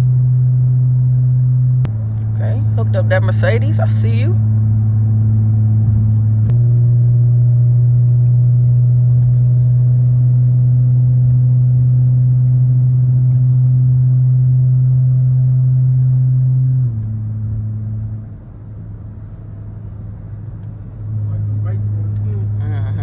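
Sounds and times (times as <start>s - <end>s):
car engine drone from inside: 0.0s - 23.0s.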